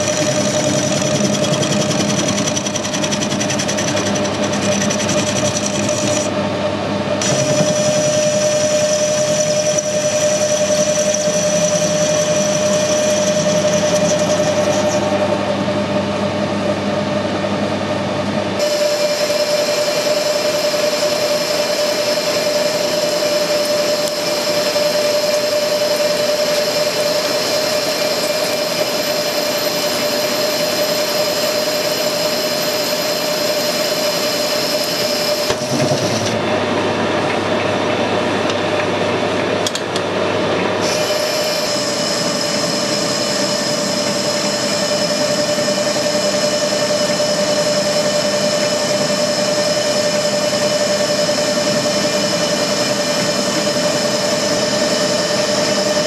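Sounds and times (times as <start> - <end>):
metal lathe humming and whining: 0.0 - 56.0.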